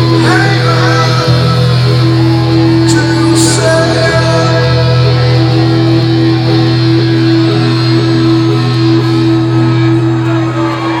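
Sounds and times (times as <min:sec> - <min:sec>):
electric guitar sustained notes: 0:00.0 - 0:11.0
live rock band: 0:00.0 - 0:11.0.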